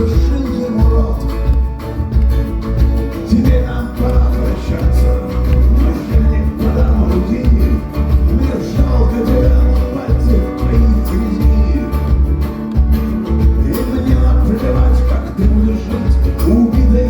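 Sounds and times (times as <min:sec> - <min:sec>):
guitar: 0:00.0 - 0:17.0
heavy pulsing bass: 0:00.0 - 0:17.0
live band playing: 0:00.0 - 0:17.0.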